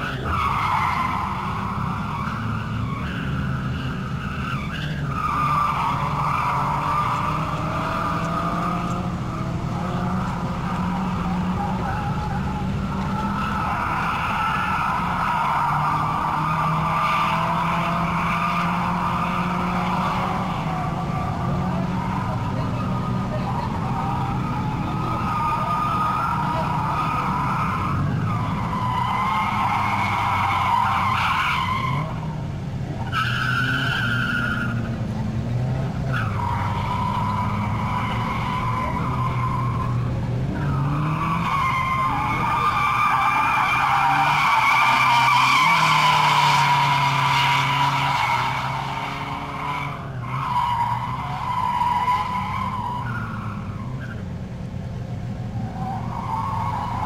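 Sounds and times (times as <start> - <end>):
tyres squealing: 0.0 - 32.3, 33.0 - 54.4
car engine revving: 0.0 - 57.0.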